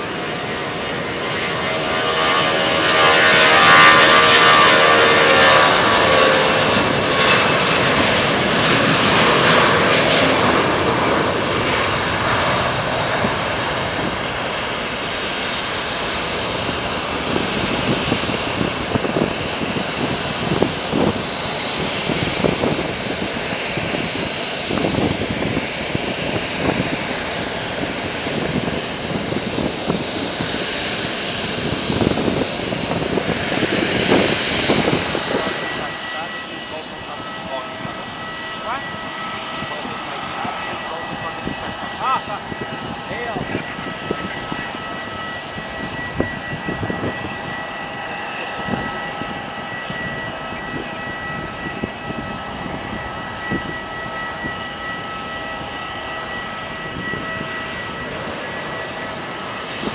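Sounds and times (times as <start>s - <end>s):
jet airliner taking off: 0.0s - 59.9s.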